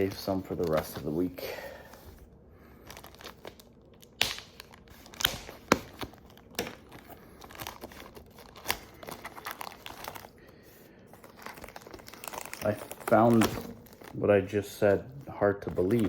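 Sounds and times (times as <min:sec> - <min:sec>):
packaging crinkling and tearing: 0:02.8 - 0:16.0.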